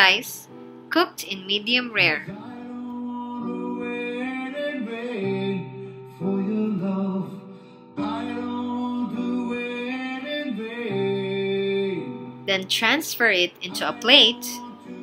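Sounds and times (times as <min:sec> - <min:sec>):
background guitar music: 0:00.0 - 0:15.0.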